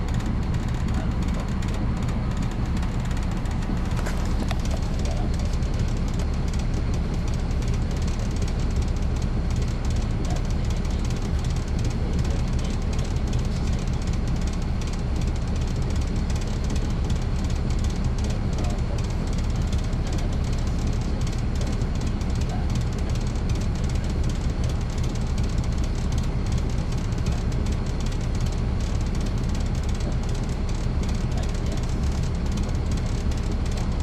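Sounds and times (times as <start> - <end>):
bus diesel engine droning: 0.0 - 34.0.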